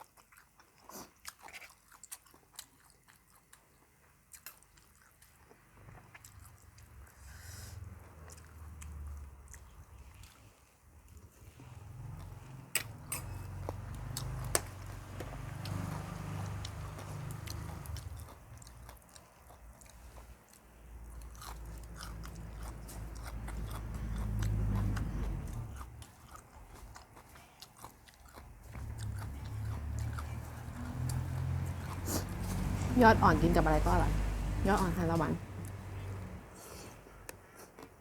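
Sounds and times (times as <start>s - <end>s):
person chewing crunchy food: 0.0s - 33.6s, 35.6s - 38.0s.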